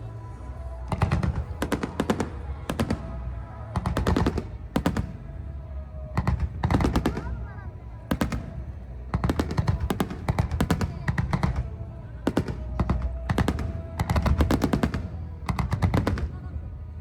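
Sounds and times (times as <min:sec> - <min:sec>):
low rumble of fireworks bursting: 0:00.0 - 0:17.0
fireworks cracking and banging: 0:00.7 - 0:16.6.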